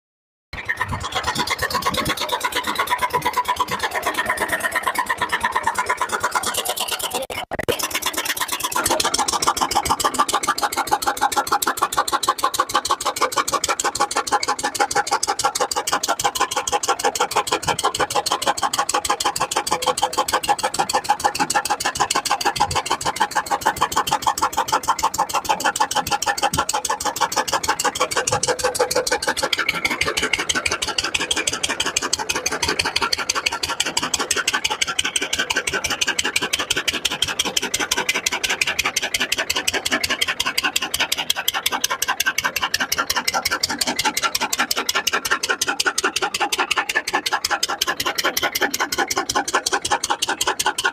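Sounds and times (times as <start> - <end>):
diesel engine running: 0.6 - 50.9.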